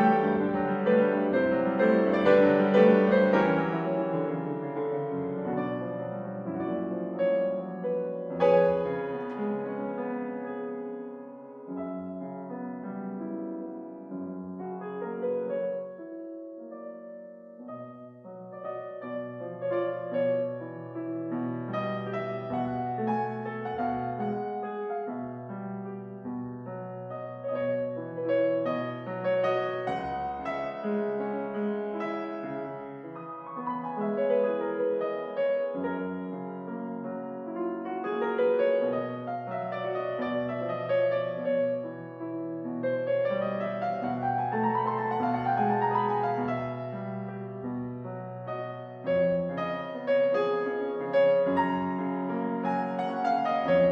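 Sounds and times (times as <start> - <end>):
soft piano music: 0.0 - 53.9.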